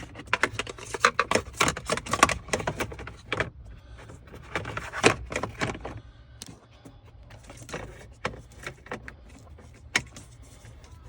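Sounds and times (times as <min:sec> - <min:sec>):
hard plastic clicking and rattling: 0:00.0 - 0:11.0.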